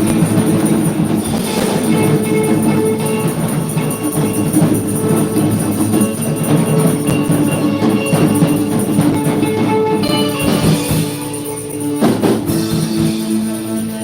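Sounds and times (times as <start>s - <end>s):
drums: 0.0s - 14.0s
worship band playing: 0.0s - 14.0s.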